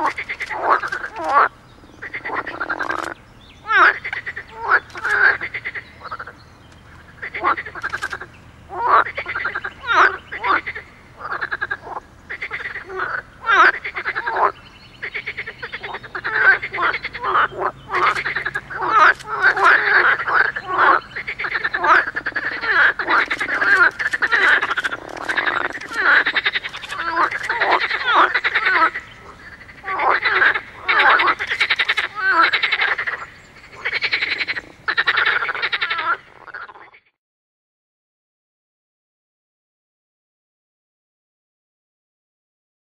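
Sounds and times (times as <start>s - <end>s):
frogs croaking: 0.0s - 37.2s.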